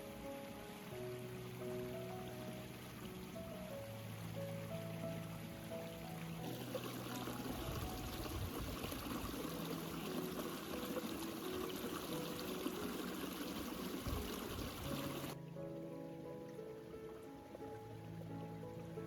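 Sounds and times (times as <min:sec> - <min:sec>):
soft background music: 0:00.0 - 0:19.0
water pouring: 0:00.0 - 0:19.0.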